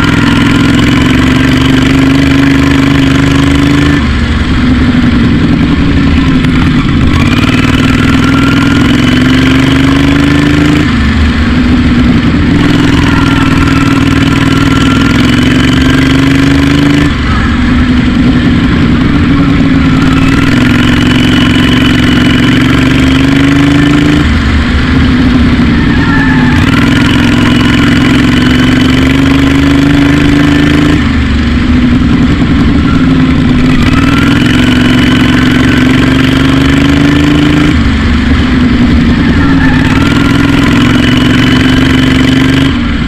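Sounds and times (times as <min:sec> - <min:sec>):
lawnmower engine running hard: 0:00.0 - 0:43.0.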